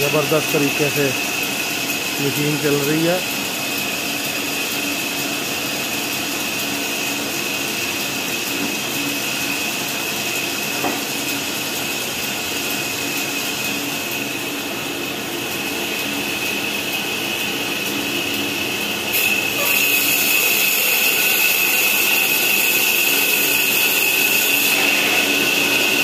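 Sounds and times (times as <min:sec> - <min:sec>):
bandsaw running with high whine: 0:00.0 - 0:26.0.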